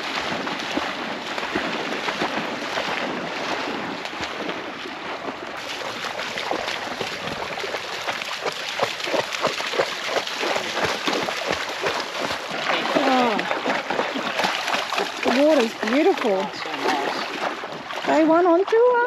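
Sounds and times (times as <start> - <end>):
dogs splashing through water: 0.0 - 19.0.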